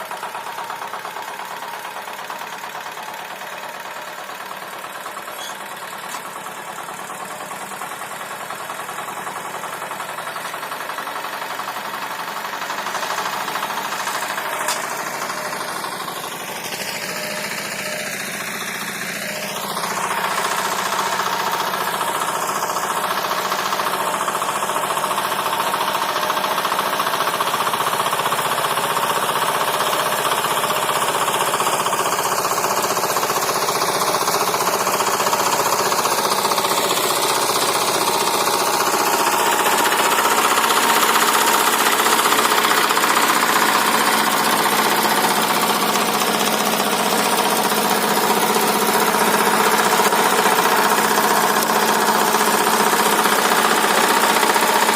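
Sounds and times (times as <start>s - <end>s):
walk-behind tractor engine running: 0.0s - 54.9s.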